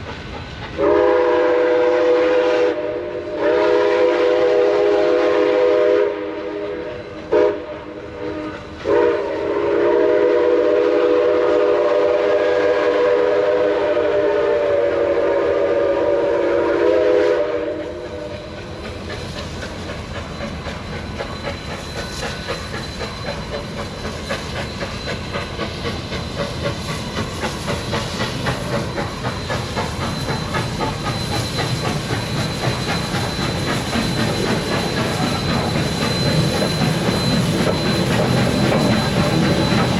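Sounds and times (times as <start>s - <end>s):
train wheels clicking on rail joints: 0.0s - 39.9s
steam locomotive chime whistle: 0.8s - 39.9s.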